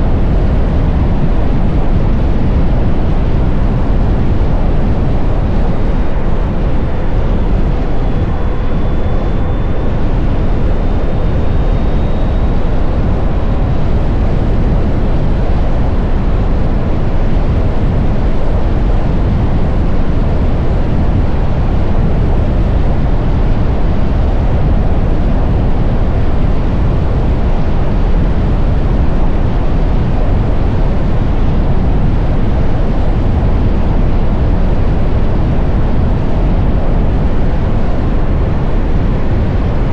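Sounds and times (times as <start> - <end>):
faint high whine: 0.0 - 39.9
wind buffeting microphone: 0.0 - 39.9.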